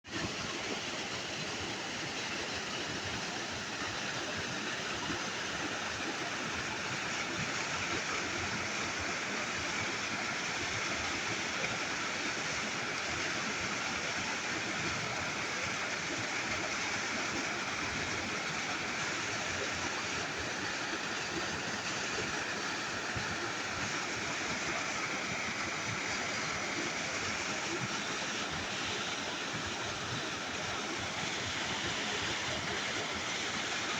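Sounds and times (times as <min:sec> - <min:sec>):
flowing river water: 0:00.0 - 0:33.9.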